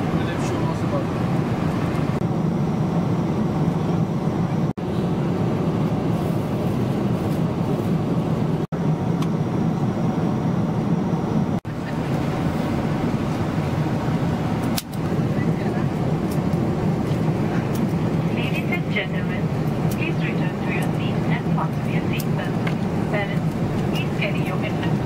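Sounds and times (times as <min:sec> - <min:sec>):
airplane cabin engine hum: 0:00.0 - 0:25.0.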